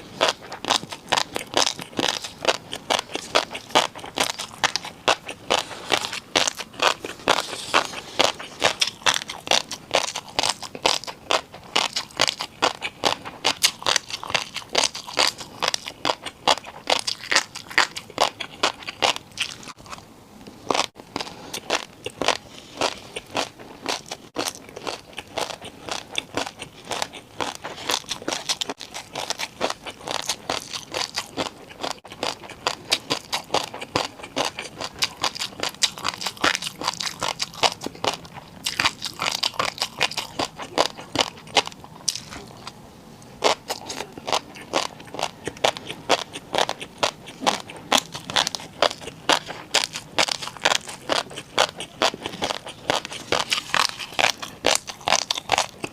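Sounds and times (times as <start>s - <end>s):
chewing crunchy food: 0.0s - 55.9s.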